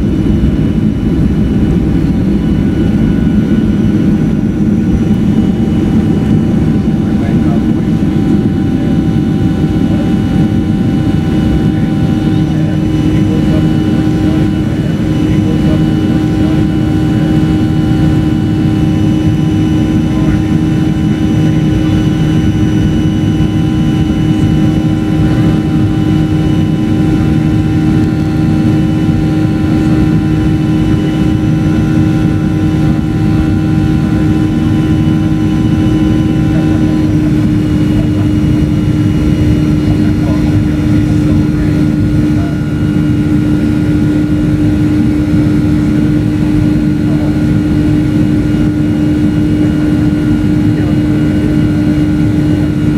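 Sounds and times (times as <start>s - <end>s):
jet engines roaring in cabin: 0.0s - 52.9s.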